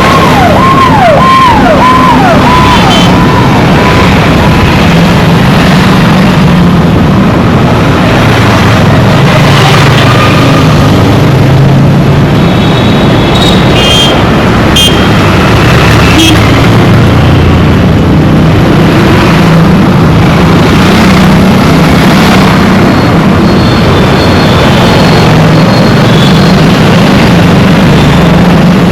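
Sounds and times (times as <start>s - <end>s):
road traffic hum: 0.0s - 28.9s.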